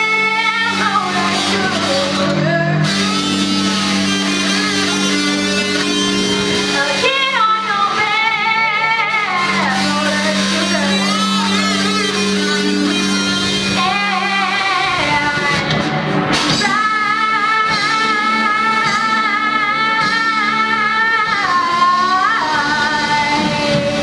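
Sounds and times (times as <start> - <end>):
live rock music: 0.0 - 24.0.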